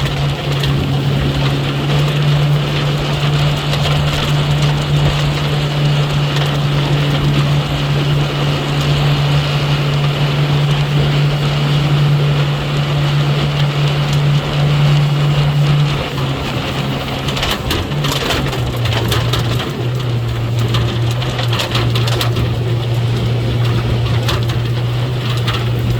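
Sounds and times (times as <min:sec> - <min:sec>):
motorboat engine droning: 0:00.0 - 0:25.9
water rushing: 0:00.0 - 0:25.9
wind: 0:00.0 - 0:25.9.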